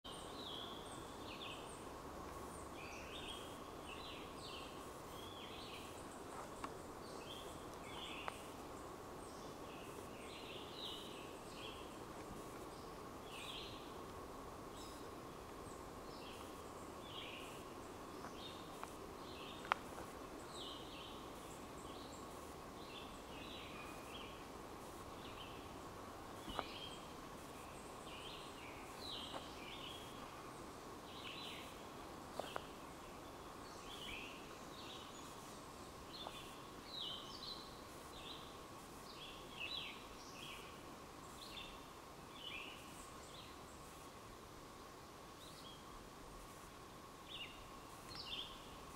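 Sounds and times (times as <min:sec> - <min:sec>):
songbirds chirping: 0:00.0 - 0:48.9
steady thin hum: 0:00.1 - 0:48.9.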